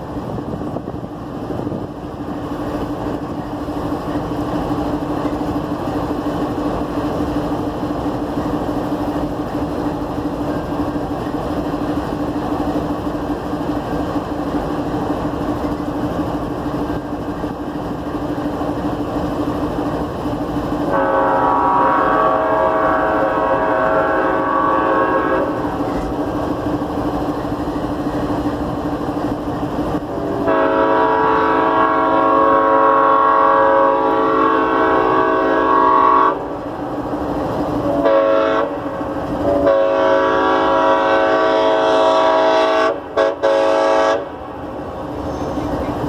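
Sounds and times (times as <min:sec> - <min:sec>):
locomotive engine drone: 0:00.0 - 0:46.0.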